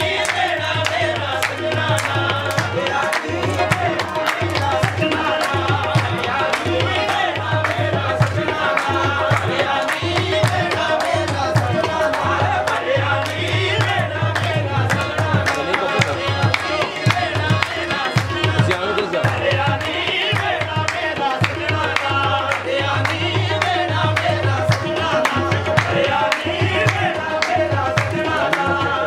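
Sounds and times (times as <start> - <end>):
harmonium drone: 0.0 - 29.0
people singing: 0.0 - 29.0
tabla rhythm: 0.0 - 29.0.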